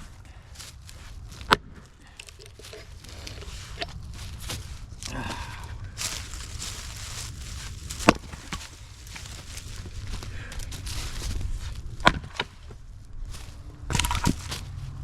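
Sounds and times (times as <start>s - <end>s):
maul striking firewood: 0.7s - 9.9s, 10.5s - 12.8s, 13.9s - 14.8s.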